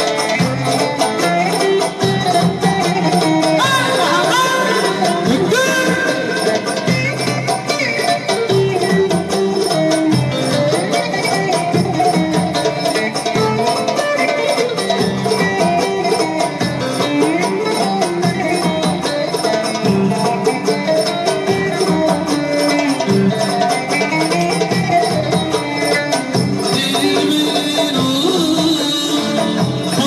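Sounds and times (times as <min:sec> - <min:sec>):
plucked lute melody: 0:00.0 - 0:30.0.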